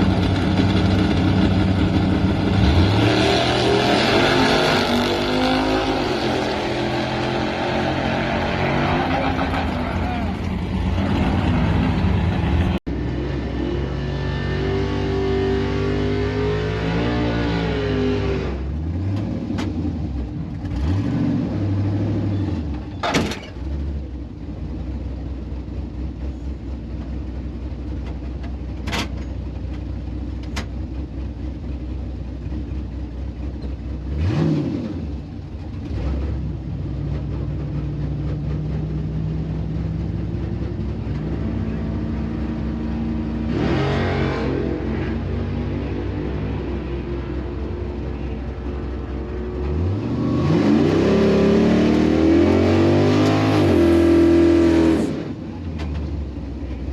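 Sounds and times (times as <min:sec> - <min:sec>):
drag car engines revving: 0:00.0 - 0:24.3, 0:32.3 - 0:56.9.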